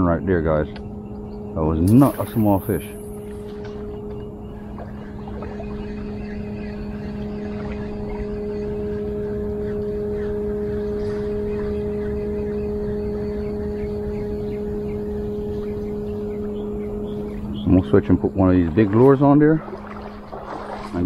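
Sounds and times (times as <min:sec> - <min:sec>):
steady engine hum: 0:00.0 - 0:21.0.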